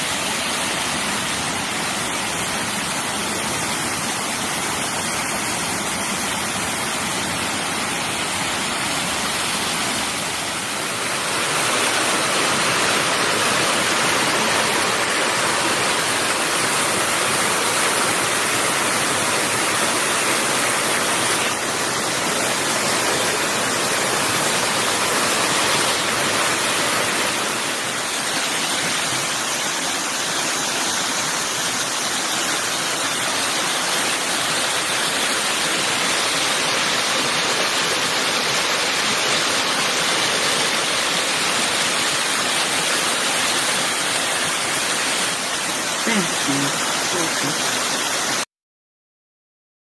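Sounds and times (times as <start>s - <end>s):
stream rushing over rocks: 0.0s - 48.5s.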